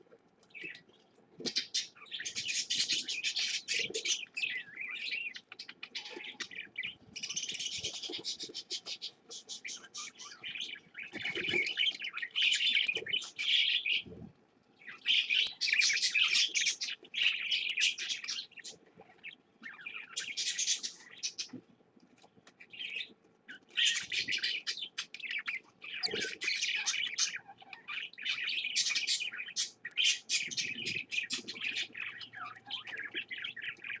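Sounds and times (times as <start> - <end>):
budgerigars chirping and chattering: 0.5 - 14.1, 14.8 - 21.6, 22.6 - 34.0.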